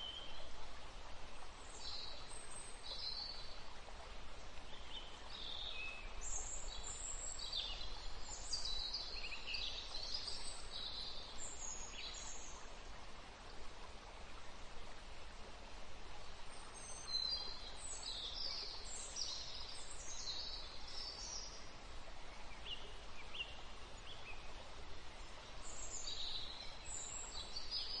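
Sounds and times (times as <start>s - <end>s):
bird chirps and warbles: 0.0s - 0.5s, 1.4s - 12.8s, 16.4s - 28.0s
background hiss: 0.0s - 28.0s.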